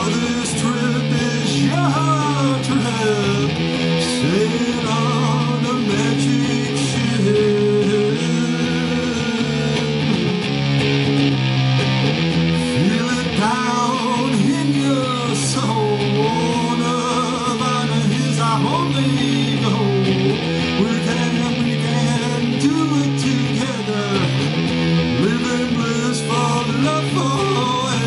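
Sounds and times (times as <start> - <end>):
steady low backing: 0.0 - 27.9
electric guitar rock song: 0.0 - 28.0.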